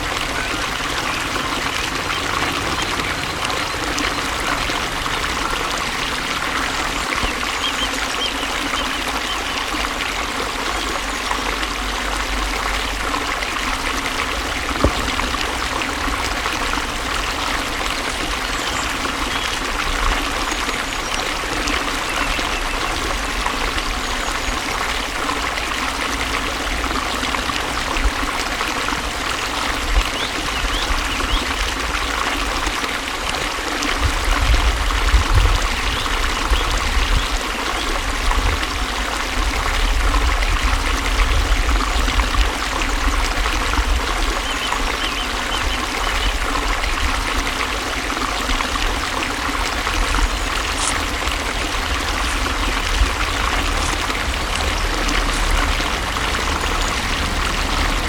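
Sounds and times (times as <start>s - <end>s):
water flowing and splashing: 0.0s - 58.0s.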